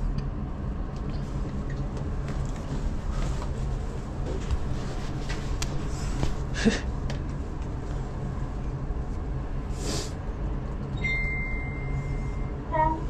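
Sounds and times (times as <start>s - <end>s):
lift hum: 0.0s - 13.0s.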